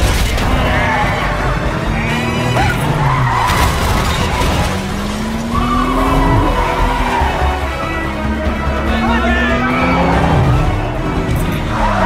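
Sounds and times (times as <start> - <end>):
car engine revving: 0.0 - 12.0
dramatic orchestral music: 0.0 - 12.0
tyres skidding: 0.0 - 12.0.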